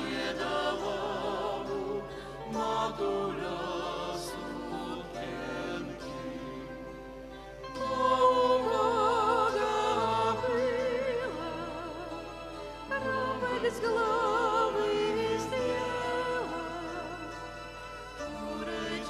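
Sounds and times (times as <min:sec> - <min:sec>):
vocal ensemble singing carol: 0:00.0 - 0:19.0.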